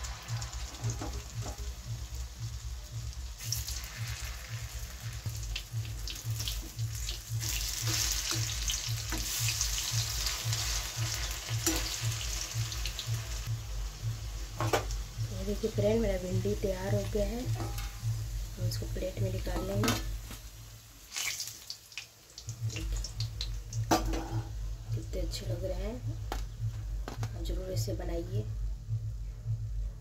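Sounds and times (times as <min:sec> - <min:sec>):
low pulsing hum: 0:00.0 - 0:21.0, 0:22.4 - 0:30.0
food sizzling in hot oil: 0:00.0 - 0:24.6.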